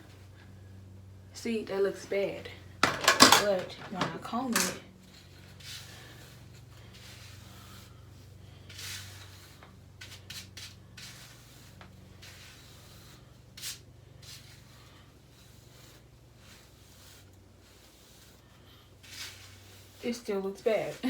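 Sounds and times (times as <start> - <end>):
low electrical hum: 0.0 - 21.0
brush strokes through wig hair: 3.9 - 21.0.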